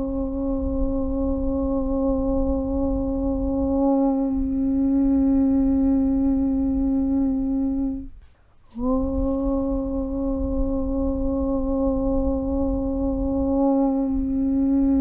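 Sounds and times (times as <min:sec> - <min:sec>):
person humming low chant: 0:00.0 - 0:15.0.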